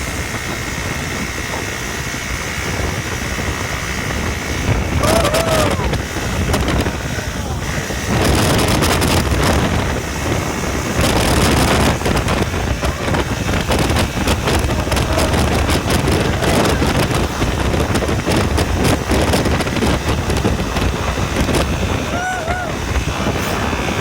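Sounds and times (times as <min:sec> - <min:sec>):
atv engine running: 0:00.0 - 0:24.0
wind buffeting microphone: 0:00.0 - 0:24.0.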